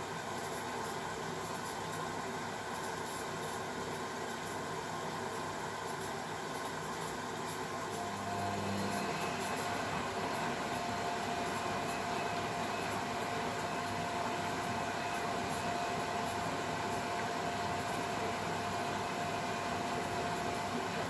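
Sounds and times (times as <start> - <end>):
washing machine whirring: 0.0 - 21.0.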